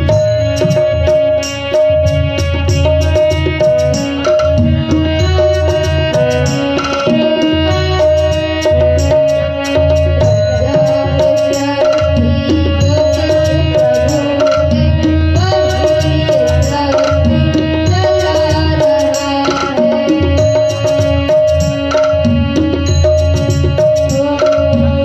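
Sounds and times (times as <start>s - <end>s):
boy singing: 0.0s - 25.0s
tabla rhythm: 0.0s - 25.0s.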